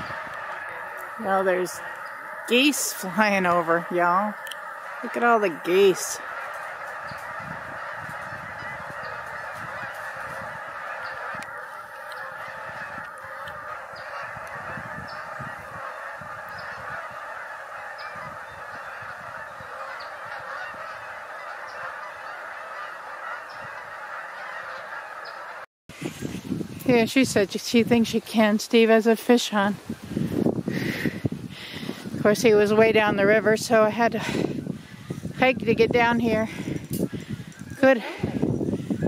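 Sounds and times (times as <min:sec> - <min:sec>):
geese honking: 0:00.0 - 0:26.3, 0:26.9 - 0:39.0.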